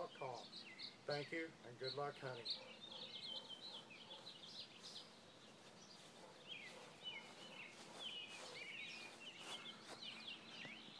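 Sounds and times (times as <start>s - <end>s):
faint twittering birdsong: 0.0s - 10.9s.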